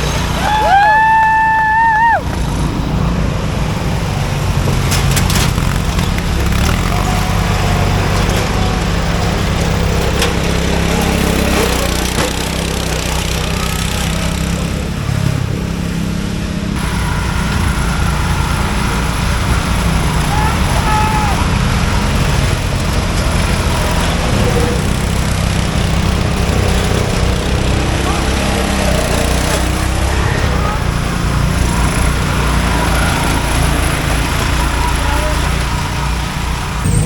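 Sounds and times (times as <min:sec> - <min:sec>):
small engines rumbling: 0:00.0 - 0:37.0.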